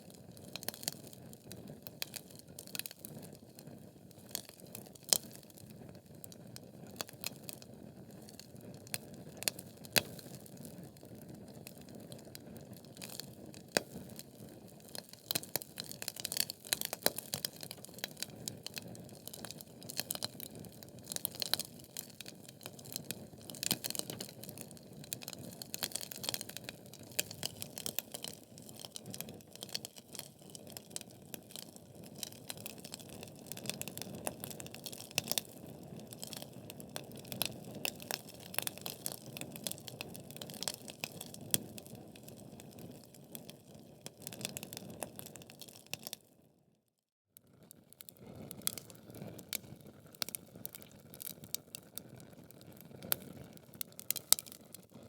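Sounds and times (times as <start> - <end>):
logs crackling and popping: 0.3 - 46.2, 48.1 - 54.8.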